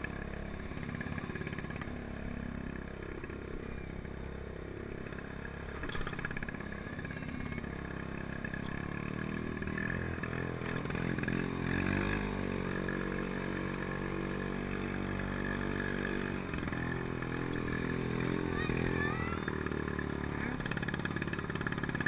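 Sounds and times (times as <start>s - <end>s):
two-stroke engine running: 0.0s - 22.0s.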